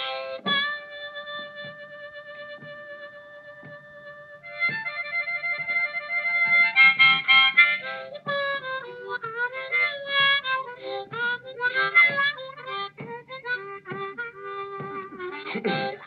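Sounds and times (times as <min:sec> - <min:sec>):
blues harmonica playing: 0:00.0 - 0:16.0
guitar accompaniment: 0:00.0 - 0:16.0.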